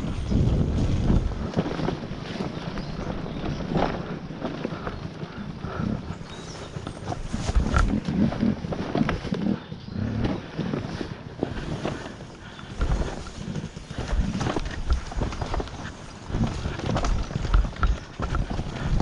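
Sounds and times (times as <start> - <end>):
bike knocking and rattling: 0.0 - 19.0
dirt bike engine at low revs: 0.0 - 19.0.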